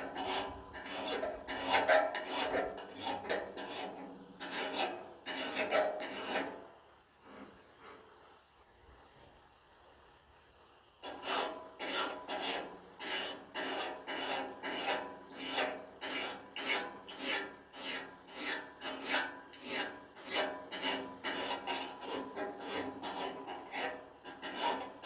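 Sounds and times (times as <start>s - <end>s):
metal file scraping steel blade: 0.0s - 6.6s, 11.0s - 25.0s.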